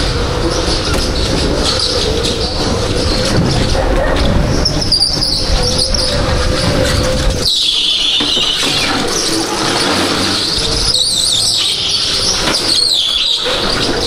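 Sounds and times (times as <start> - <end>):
go-kart tyres squealing: 0.0 - 14.0.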